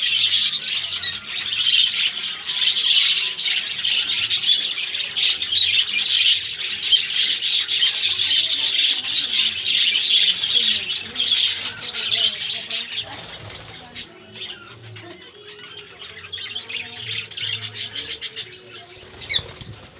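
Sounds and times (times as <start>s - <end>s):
parrots chattering and chirping: 0.0s - 19.9s.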